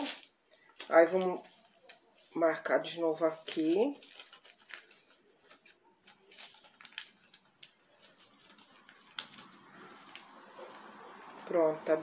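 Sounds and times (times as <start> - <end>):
paper crackles and ticks: 0.0 - 12.0
parchment paper rustling: 0.0 - 12.0.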